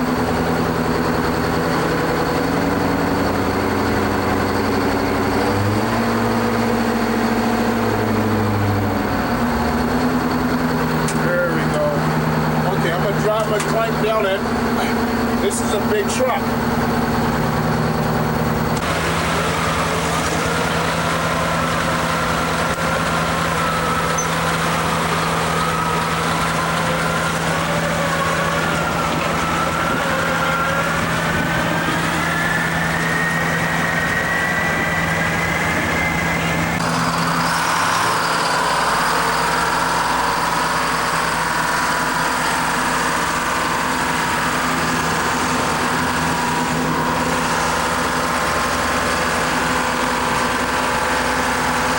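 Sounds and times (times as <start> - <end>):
large truck engine running: 0.0 - 51.9
whine rising in pitch: 0.1 - 51.2.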